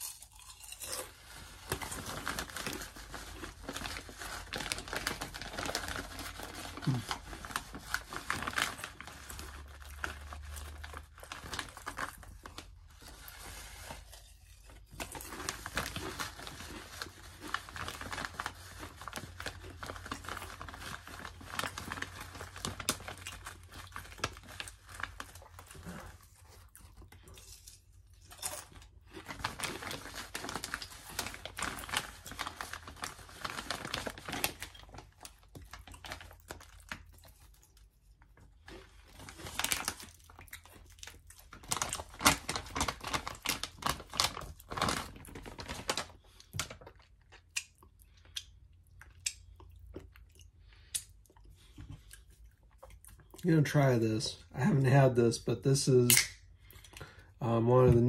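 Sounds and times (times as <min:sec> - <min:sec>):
potato chips crunching: 0:00.0 - 0:55.2
foil chip bag crinkling: 0:00.0 - 0:58.0.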